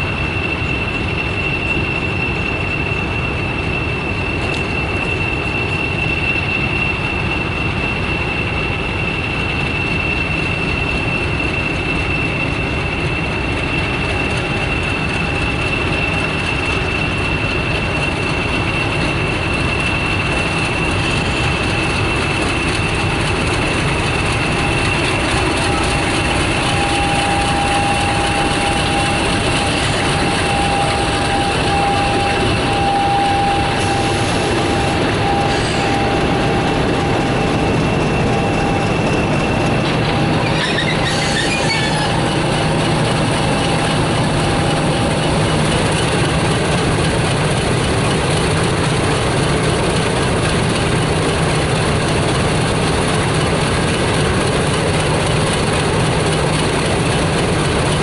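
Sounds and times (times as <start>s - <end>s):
diesel locomotive engine running: 0.0s - 58.0s
steady high whine: 0.0s - 58.0s.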